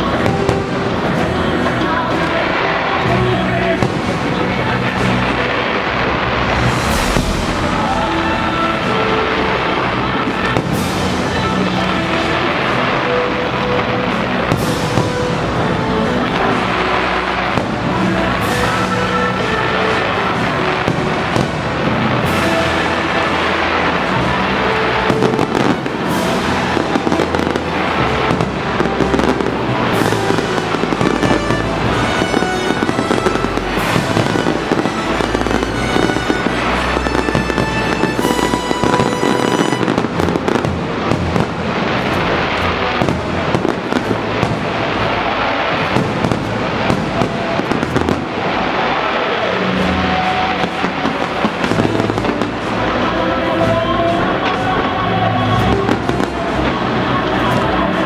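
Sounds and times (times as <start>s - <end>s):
fireworks bursting and crackling: 0.0s - 58.0s
music playing: 0.0s - 58.0s.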